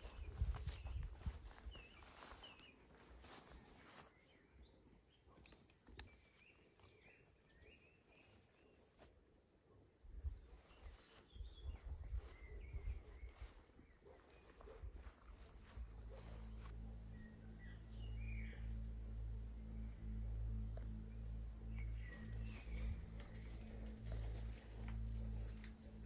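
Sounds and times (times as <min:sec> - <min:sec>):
small birds chirping: 0:00.0 - 0:09.2, 0:10.1 - 0:26.0.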